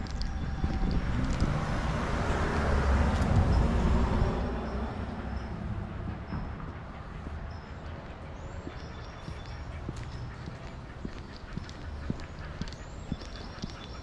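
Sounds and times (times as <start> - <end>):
road vehicle passing: 0.0 - 14.0.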